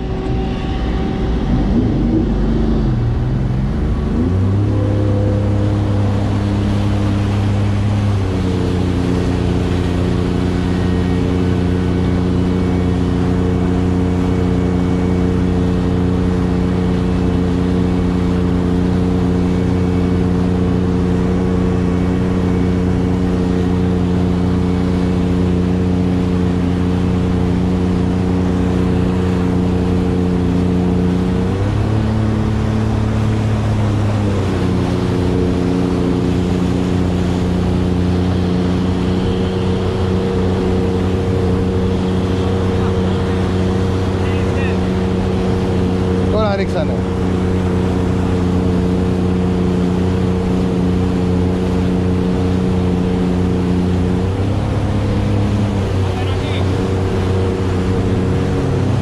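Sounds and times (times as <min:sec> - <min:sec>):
personal watercraft engine running: 0:00.0 - 0:59.0.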